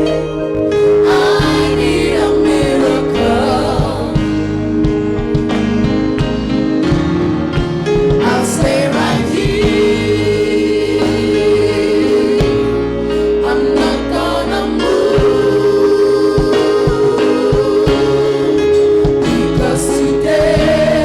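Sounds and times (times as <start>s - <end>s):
band accompaniment: 0.0s - 21.0s
choir singing gospel: 0.0s - 21.0s
steady drum beats: 0.0s - 21.0s.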